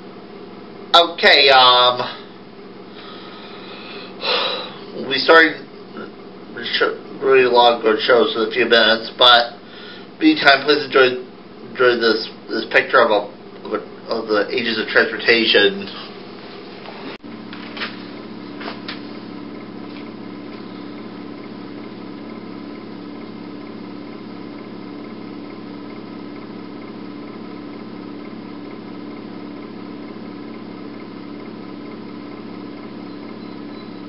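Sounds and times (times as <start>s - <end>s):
steady mechanical hum: 0.0s - 34.0s.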